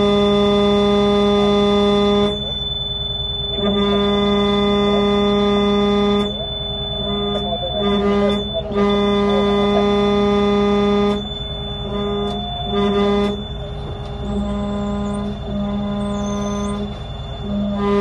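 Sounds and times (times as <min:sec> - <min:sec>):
low-pitched horn blasts: 0:00.0 - 0:18.0.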